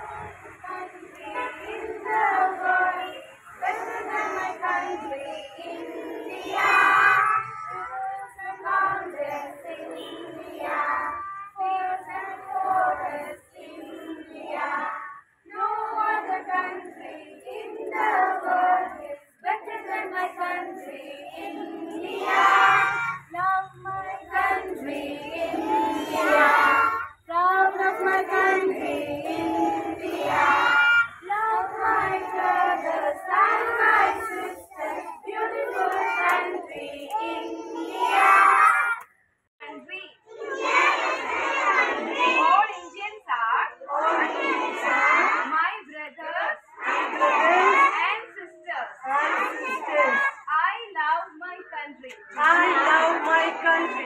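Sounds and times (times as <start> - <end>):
children chanting in unison: 0.0 - 39.0, 40.2 - 43.0, 43.8 - 45.5, 46.4 - 48.2, 48.9 - 50.4, 52.2 - 54.0.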